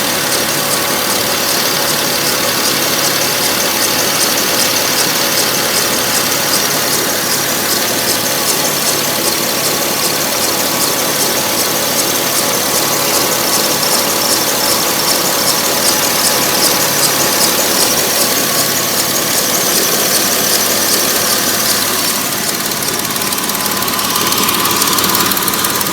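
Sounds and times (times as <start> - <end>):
car engine running: 0.0 - 25.9
fast even ticking: 0.0 - 25.9.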